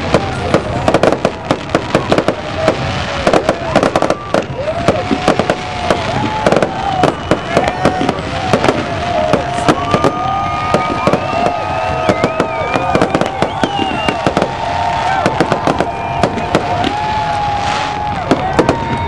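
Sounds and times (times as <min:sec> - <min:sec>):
crowd whooping and yelling: 0:00.0 - 0:19.0
fireworks bangs and crackles: 0:00.0 - 0:19.0.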